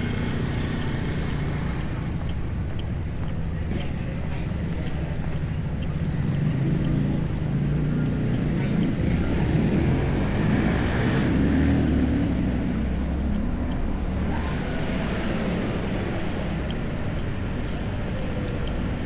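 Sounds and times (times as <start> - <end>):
traffic noise: 0.0 - 19.0
vehicle engine rumbling: 0.0 - 19.0.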